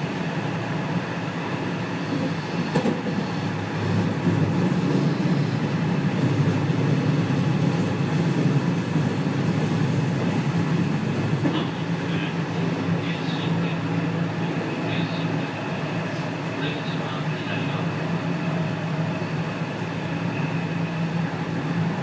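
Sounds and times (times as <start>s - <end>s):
train motors and wheels rumbling: 0.0s - 22.0s.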